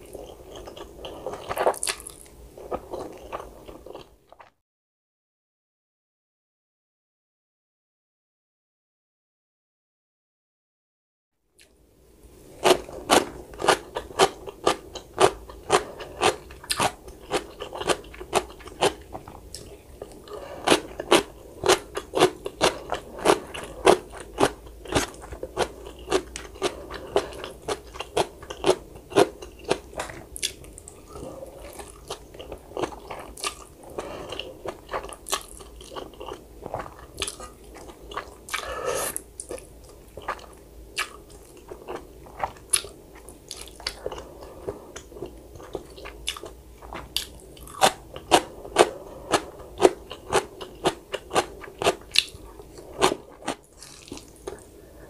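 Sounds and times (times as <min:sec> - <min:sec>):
person chewing crunchy food: 0:00.0 - 0:04.5, 0:12.5 - 0:55.0.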